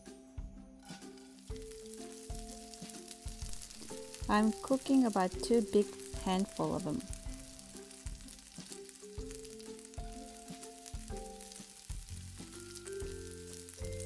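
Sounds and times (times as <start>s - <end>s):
background music: 0.0s - 14.0s
fish sizzling in a frying pan: 0.9s - 14.0s.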